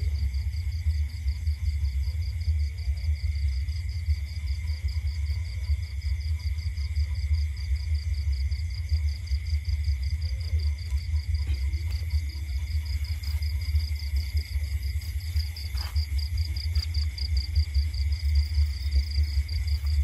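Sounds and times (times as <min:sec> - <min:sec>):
crickets chirping: 0:00.0 - 0:20.0
low rumble: 0:00.0 - 0:20.0.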